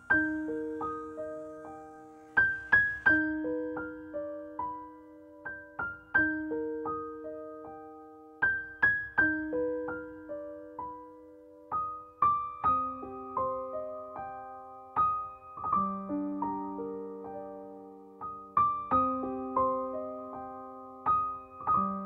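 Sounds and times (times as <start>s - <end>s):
gentle electric piano melody: 0.0s - 22.0s.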